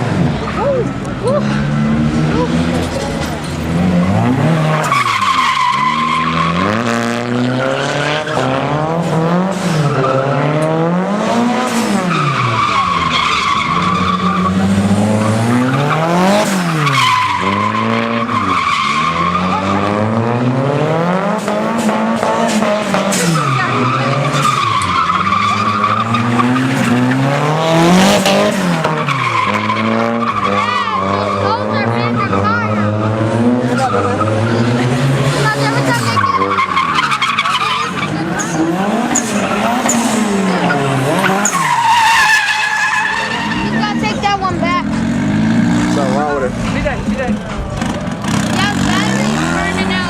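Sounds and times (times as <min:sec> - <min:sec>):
car engine revving: 0:00.0 - 0:50.0
tires squealing: 0:00.0 - 0:50.0.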